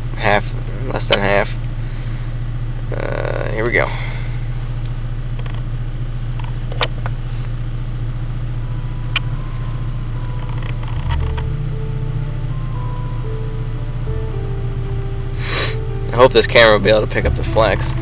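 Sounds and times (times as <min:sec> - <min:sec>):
low hum in car cabin: 0:00.0 - 0:18.0.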